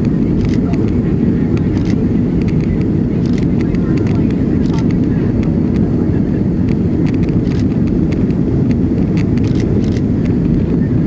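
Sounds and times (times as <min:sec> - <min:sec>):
jet airliner cabin roar: 0:00.0 - 0:11.0.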